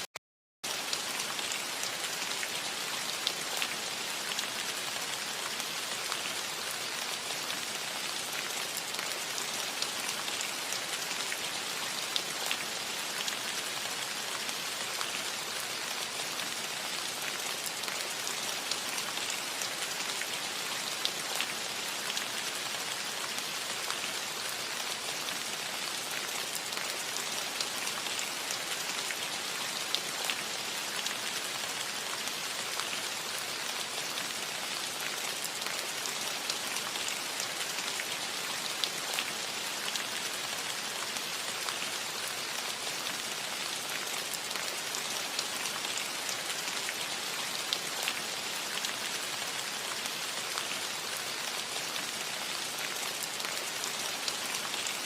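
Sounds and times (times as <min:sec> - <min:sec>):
rain on a metal roof: 0:00.0 - 0:55.0.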